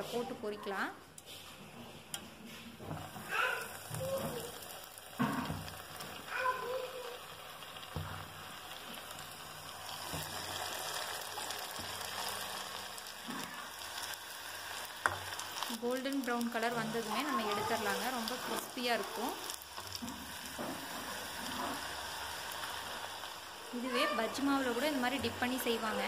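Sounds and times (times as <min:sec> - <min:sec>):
onion rings sizzling in hot oil: 0:00.0 - 0:26.0.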